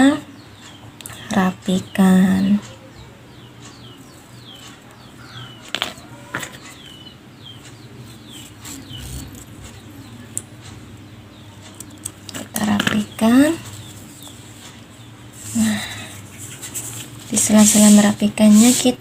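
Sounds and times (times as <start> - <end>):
low steady hum: 0.0 - 19.0
small birds chirping: 0.0 - 19.0.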